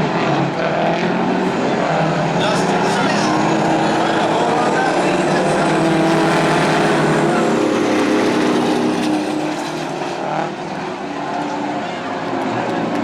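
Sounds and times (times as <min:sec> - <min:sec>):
truck diesel engines running hard: 0:00.0 - 0:13.0.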